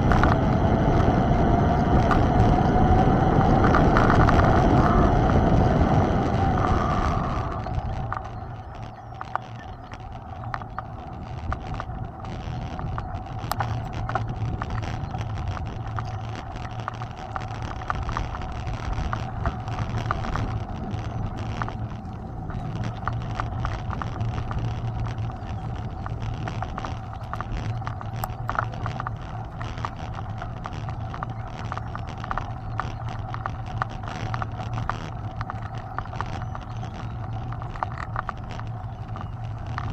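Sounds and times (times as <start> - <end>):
bike clicks and rattles: 0.0 - 39.9
mountain bike riding: 0.0 - 39.9.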